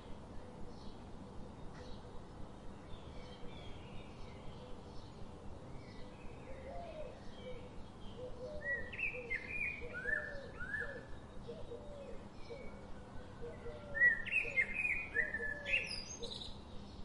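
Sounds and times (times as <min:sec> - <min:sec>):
small birds chirping: 0:00.0 - 0:17.0
steady background hiss: 0:00.0 - 0:17.0.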